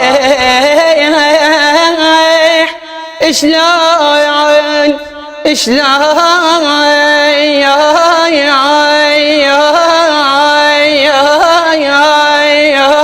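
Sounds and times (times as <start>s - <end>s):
man singing a long ornamented vowel: 0.0s - 13.0s.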